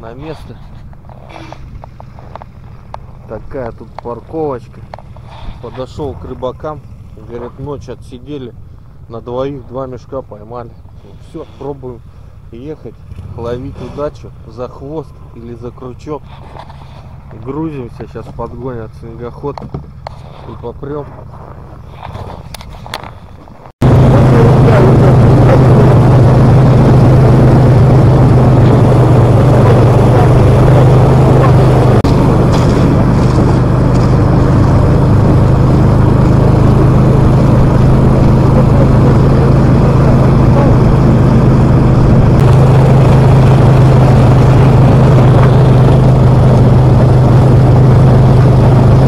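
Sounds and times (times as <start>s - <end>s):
snowmobile engine drone: 0.0s - 23.2s, 23.8s - 49.0s.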